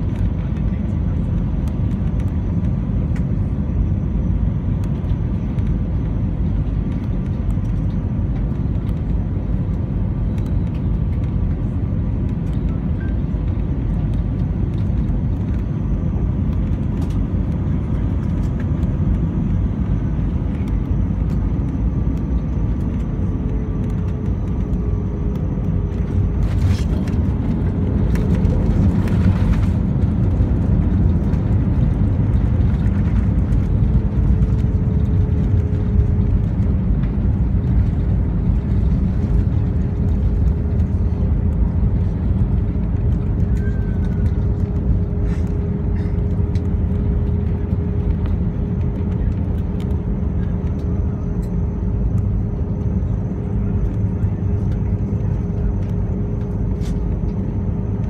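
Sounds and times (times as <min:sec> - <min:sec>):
engine roar and rushing air: 0:00.0 - 0:58.0.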